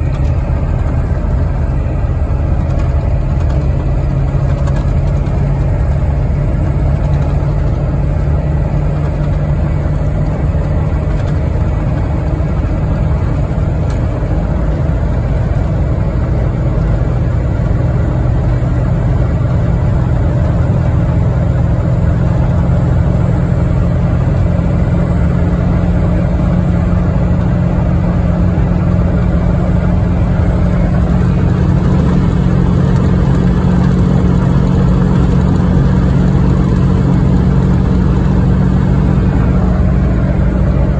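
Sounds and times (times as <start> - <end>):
engine drone: 0.0 - 40.9
road noise: 0.0 - 40.9.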